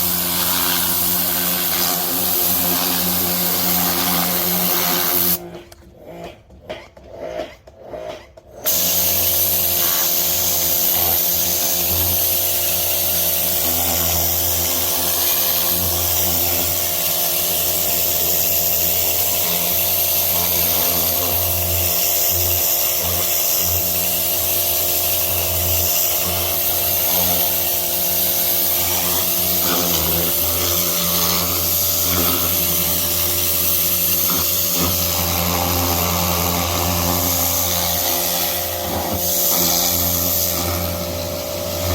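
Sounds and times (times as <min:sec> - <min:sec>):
pressure washer motor hum: 0:00.0 - 0:05.4, 0:08.6 - 0:41.9
water spray hissing: 0:00.0 - 0:05.4, 0:08.7 - 0:41.9.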